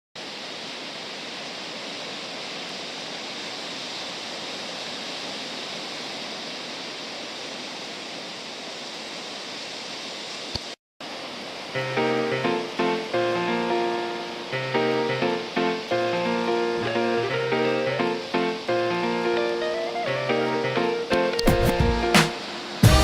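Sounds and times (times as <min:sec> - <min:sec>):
ocean surf washing on beach: 0:00.2 - 0:23.0.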